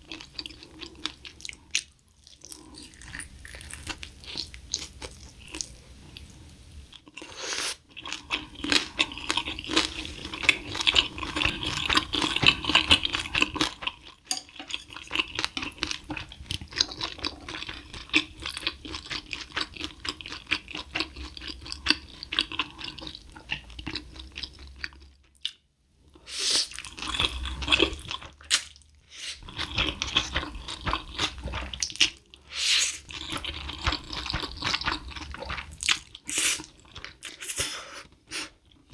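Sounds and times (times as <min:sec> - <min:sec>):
chewing and crunching: 0:00.0 - 0:06.3, 0:07.0 - 0:25.6, 0:26.7 - 0:37.7.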